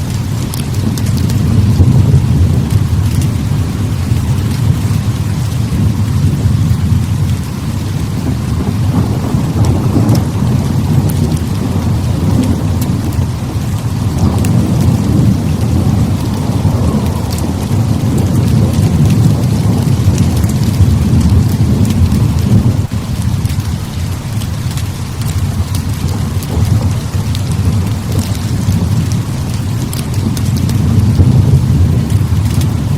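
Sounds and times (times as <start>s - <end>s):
heavy rain: 0.0s - 32.9s
rolling thunder: 0.0s - 32.9s.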